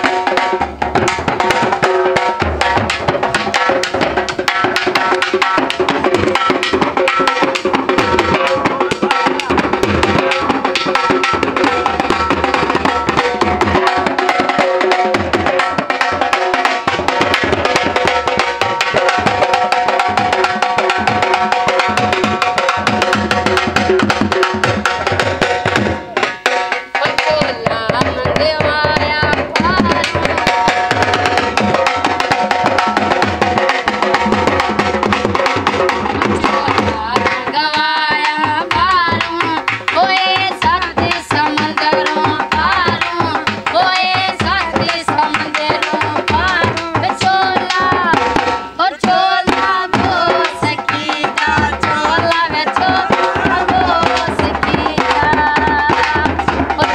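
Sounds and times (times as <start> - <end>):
drums beaten in fast rhythm: 0.0 - 56.9.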